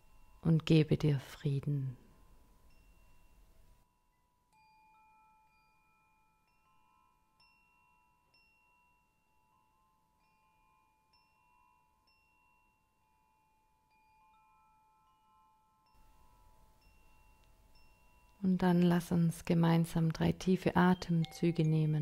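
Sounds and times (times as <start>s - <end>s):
soft bell-like chime music: 0.0s - 22.0s.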